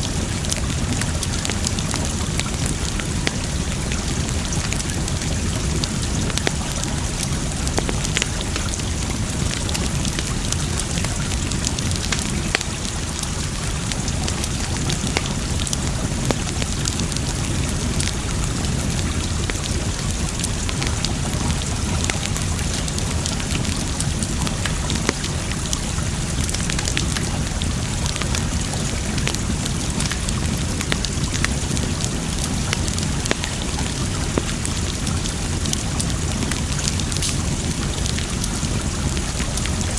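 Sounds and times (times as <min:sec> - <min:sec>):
campfire crackling and popping: 0:00.0 - 0:39.9
running water rushing: 0:00.0 - 0:39.9.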